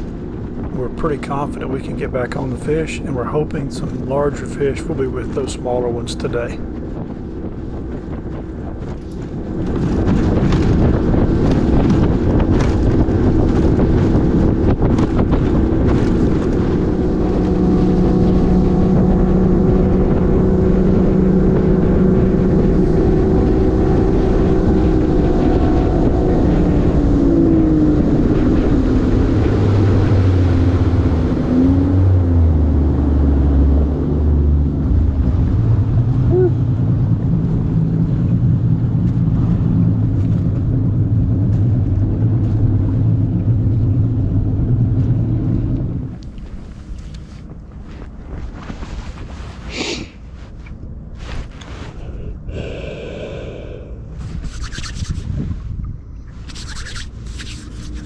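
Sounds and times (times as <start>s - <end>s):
boat motor running: 0.0s - 58.0s
wind buffeting microphone: 0.0s - 58.0s.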